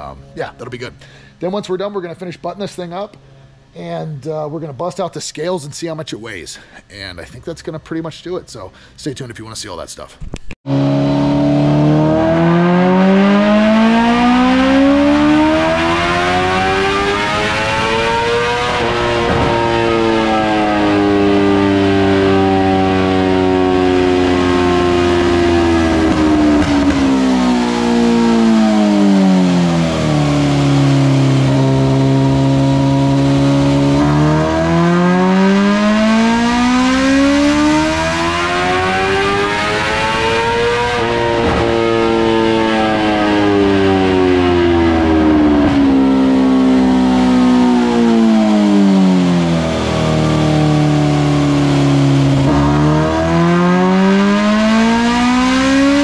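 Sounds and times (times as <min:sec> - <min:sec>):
motorcycle engine revving: 0:10.6 - 0:56.0.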